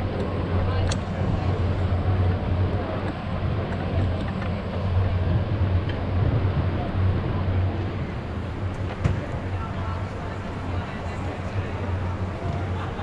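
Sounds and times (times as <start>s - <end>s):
low hum and rumble: 0.0s - 13.0s.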